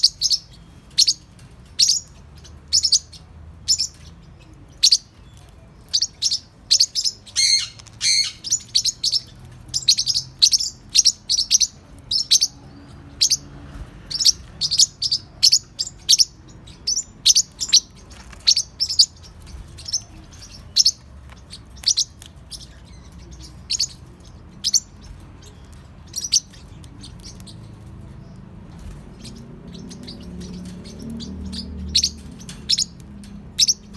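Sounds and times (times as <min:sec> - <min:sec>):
parrotlets chirping: 0:00.0 - 0:33.9.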